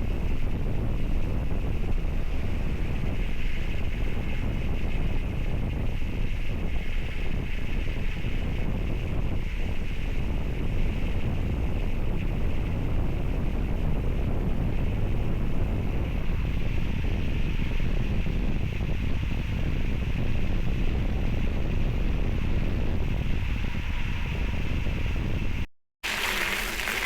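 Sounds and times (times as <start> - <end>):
continuous low rumble: 0.0 - 25.6
wind noise on microphone: 0.0 - 27.0.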